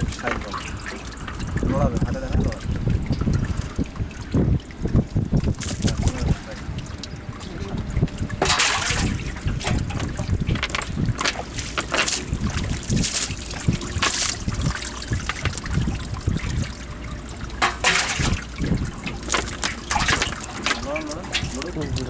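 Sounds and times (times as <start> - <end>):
water splashing and trickling: 0.0 - 22.0
dull low bumps: 1.2 - 22.0.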